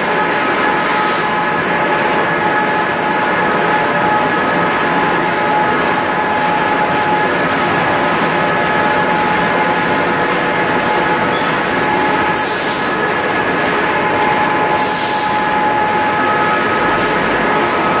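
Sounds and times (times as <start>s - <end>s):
factory machinery running: 0.0s - 18.0s.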